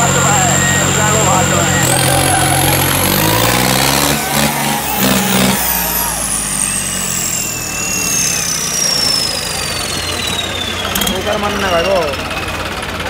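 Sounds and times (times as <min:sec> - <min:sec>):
high whistle falling in pitch: 0:00.0 - 0:12.2
diesel tractor engine revving: 0:00.0 - 0:13.0.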